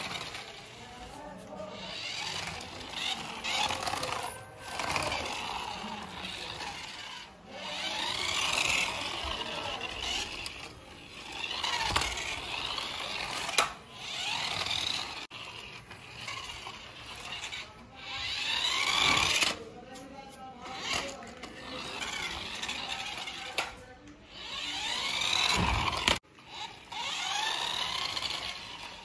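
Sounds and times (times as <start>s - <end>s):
toy car motor whirring: 0.0s - 29.0s.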